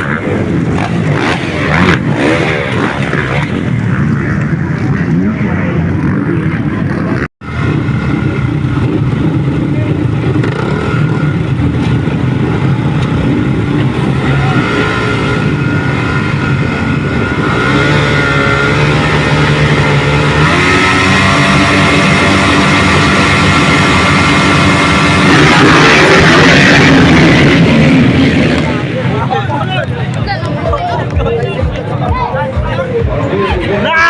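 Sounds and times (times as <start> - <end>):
motocross bikes revving: 0.0 - 34.0.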